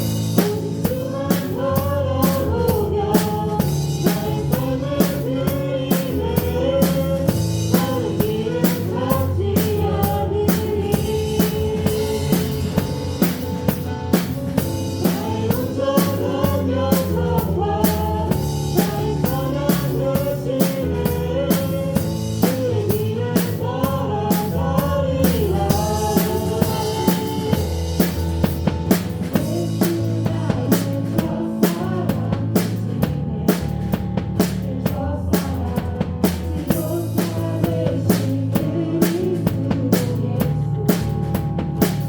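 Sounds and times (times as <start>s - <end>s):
band playing worship song: 0.0s - 42.0s
drum kit beat: 0.0s - 42.0s.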